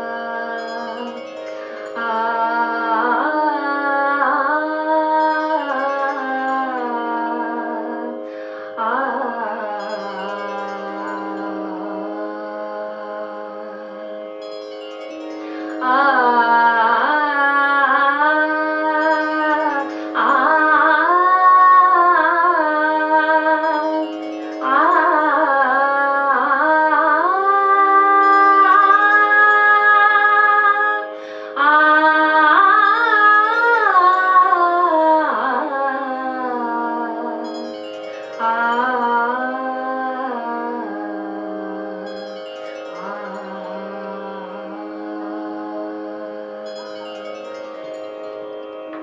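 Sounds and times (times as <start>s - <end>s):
woman singing wordless phrases: 0.0s - 14.1s, 15.7s - 37.8s, 38.4s - 42.4s, 43.0s - 46.9s
steady drone: 0.0s - 49.0s.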